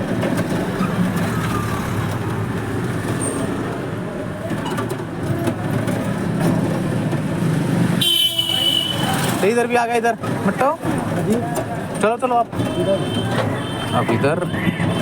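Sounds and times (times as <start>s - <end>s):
vehicle rumble in traffic: 0.0s - 15.0s.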